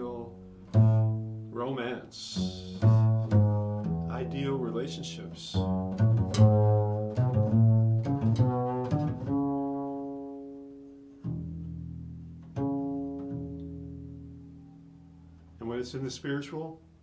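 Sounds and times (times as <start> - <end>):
double bass plucked notes: 0.0 - 17.0.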